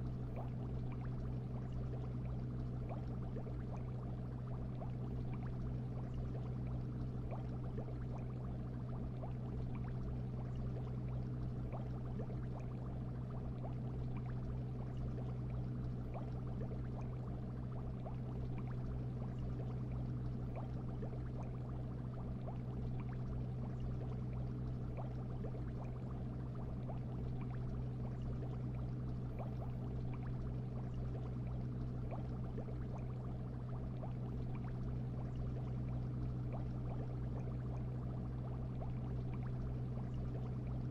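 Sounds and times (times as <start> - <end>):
bubbling and trickling water: 0.0 - 40.9
low hum: 0.0 - 40.9.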